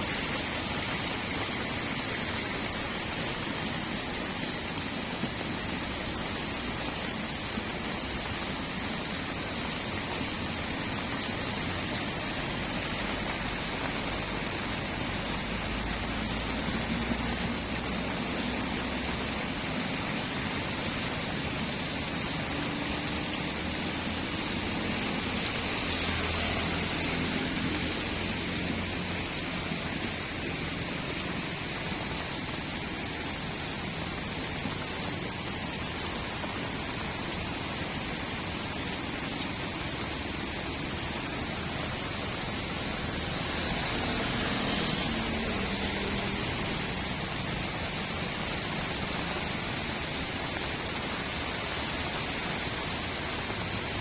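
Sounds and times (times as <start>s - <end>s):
rain falling on a street: 0.0s - 54.0s.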